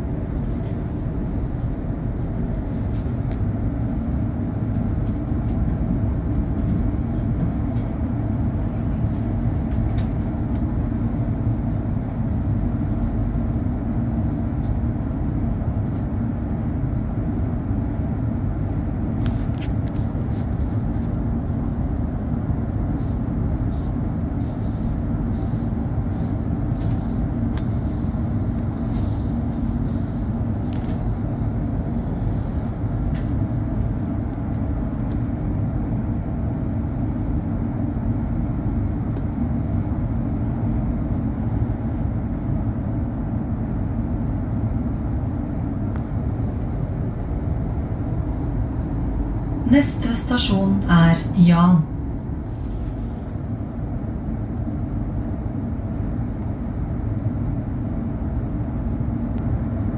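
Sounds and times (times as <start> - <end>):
train interior rumble: 0.0 - 59.9.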